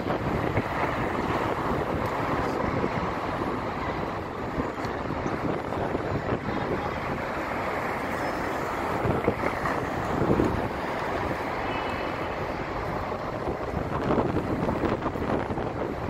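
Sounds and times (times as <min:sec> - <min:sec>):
bus driving past: 0:00.0 - 0:16.0
city street traffic: 0:00.0 - 0:16.0
wind buffeting microphone: 0:00.0 - 0:16.0.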